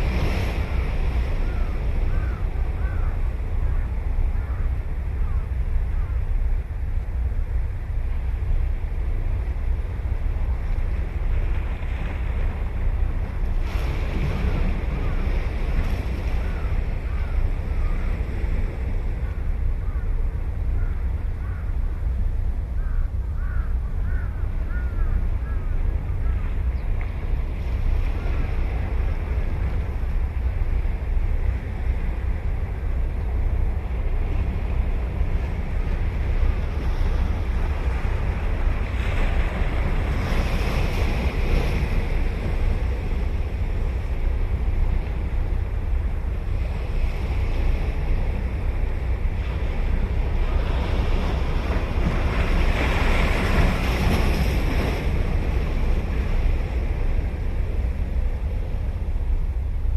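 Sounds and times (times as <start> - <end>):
ocean waves breaking on beach: 0.0 - 22.6, 25.4 - 59.9
wind buffeting microphone: 0.0 - 59.9.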